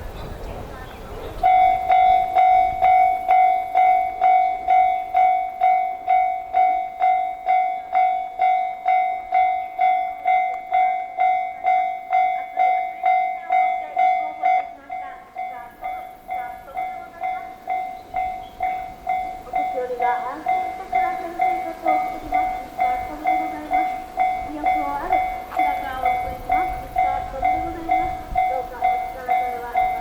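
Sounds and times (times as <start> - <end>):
level crossing warning bell ringing: 1.4 - 30.0.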